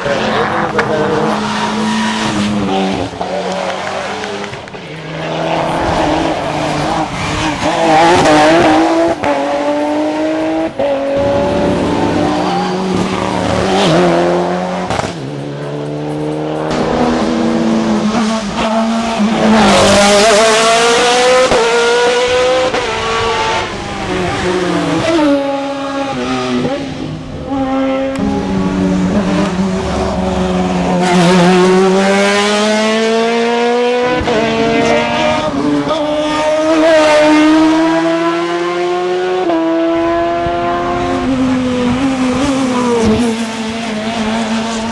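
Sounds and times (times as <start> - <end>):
race car engine revving: 0.0 - 44.9.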